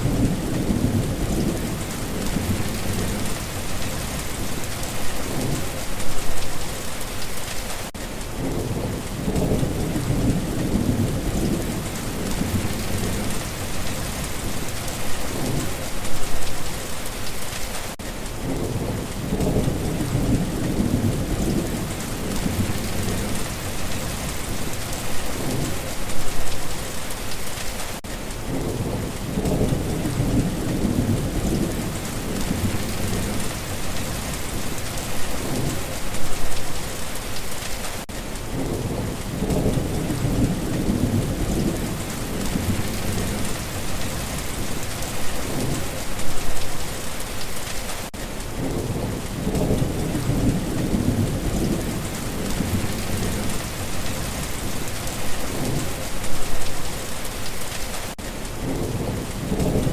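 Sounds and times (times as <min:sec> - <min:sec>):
low rumbles of thunder: 0:00.0 - 0:06.3, 0:08.3 - 0:16.4, 0:18.4 - 0:26.5, 0:28.4 - 0:36.5, 0:38.5 - 0:46.9, 0:48.5 - 0:56.6, 0:58.6 - 0:59.9
steady rain hiss: 0:00.0 - 0:59.9.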